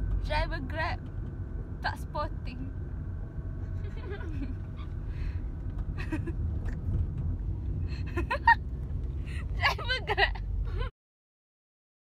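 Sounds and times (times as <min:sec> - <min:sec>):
car engine and road noise: 0:00.0 - 0:10.9.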